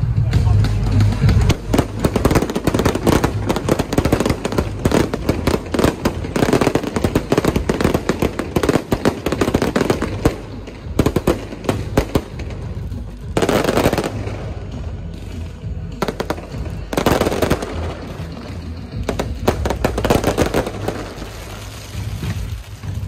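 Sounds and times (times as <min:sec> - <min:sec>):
firecrackers banging: 0:00.0 - 0:23.0.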